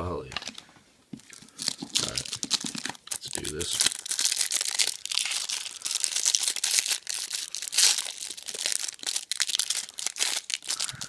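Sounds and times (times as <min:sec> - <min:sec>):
foil wrapper crinkling and tearing: 0:01.2 - 0:11.0.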